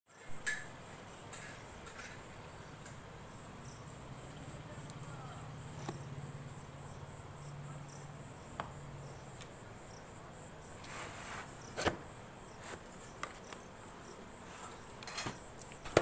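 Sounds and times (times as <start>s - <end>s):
crickets chirping: 0.1s - 16.0s.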